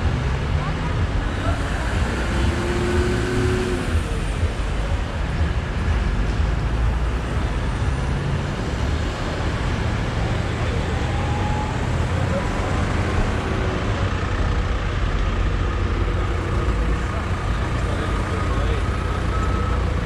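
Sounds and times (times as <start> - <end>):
motorcycle engine and road noise: 0.0 - 20.0.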